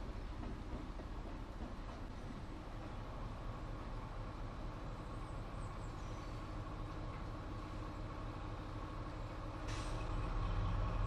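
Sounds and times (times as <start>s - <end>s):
diesel locomotive engine rumbling: 0.0s - 11.0s.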